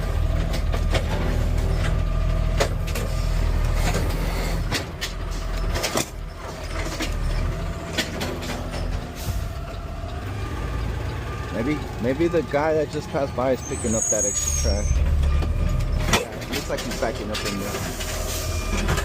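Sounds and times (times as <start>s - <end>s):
garbage truck engine rumbling: 0.0s - 19.0s.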